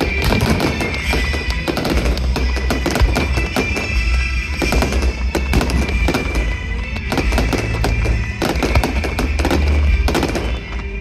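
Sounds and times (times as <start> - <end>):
deep fireworks booms: 0.0 - 11.0
fireworks bangs and crackles: 0.0 - 11.0
music playing: 0.0 - 11.0.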